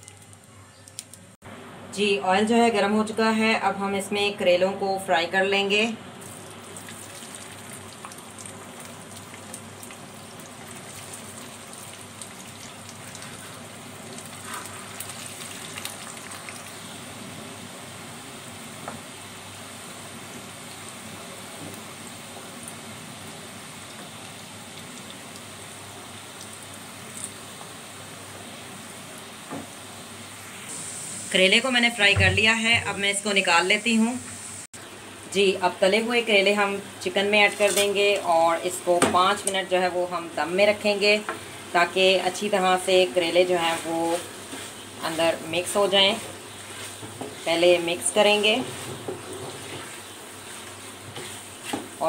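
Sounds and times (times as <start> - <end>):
vegetables frying in hot oil: 6.2 - 52.0.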